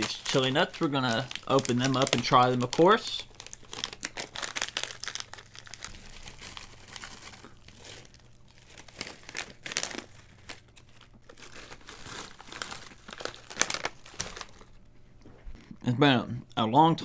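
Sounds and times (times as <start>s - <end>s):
snack bag crinkling: 0.0s - 15.8s.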